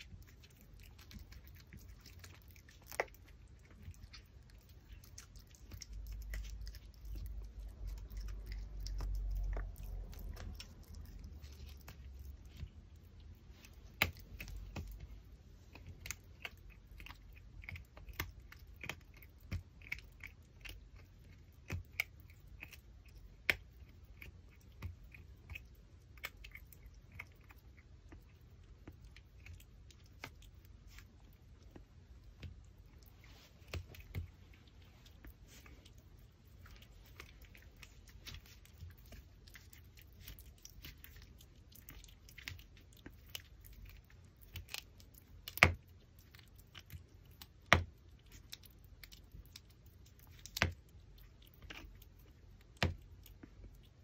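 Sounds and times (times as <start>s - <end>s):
dog teeth cracking on bone: 0.0s - 12.7s, 15.7s - 31.8s, 36.6s - 54.0s.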